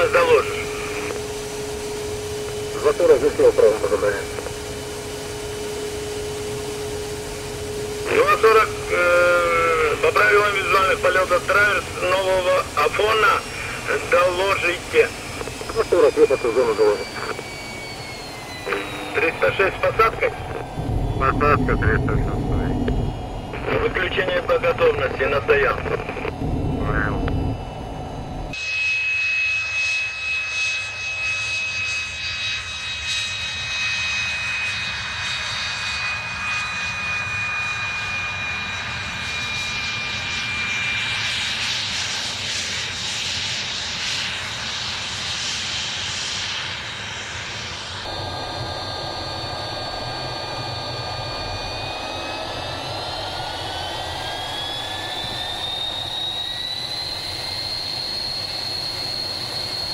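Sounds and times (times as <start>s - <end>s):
jet engine turbine whine: 0.0s - 59.9s.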